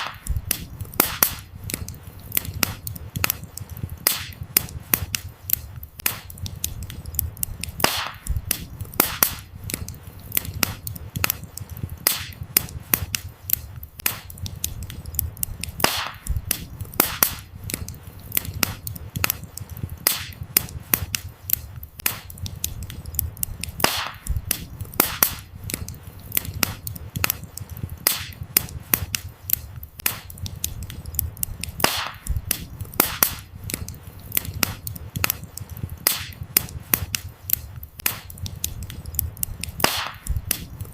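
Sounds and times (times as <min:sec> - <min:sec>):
firewood crackling and popping: 0:00.0 - 0:40.9
low rumble of flames: 0:00.1 - 0:40.9.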